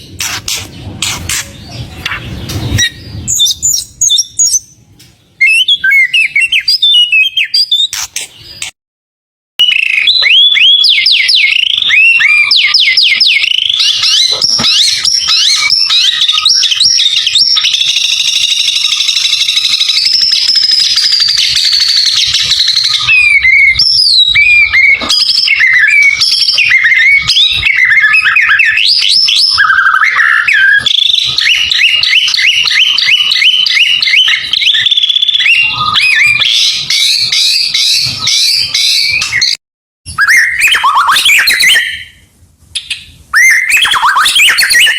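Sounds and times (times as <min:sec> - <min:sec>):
songbird singing whistles and trills: 0:01.4 - 0:04.8, 0:05.4 - 0:08.8, 0:09.6 - 0:44.9.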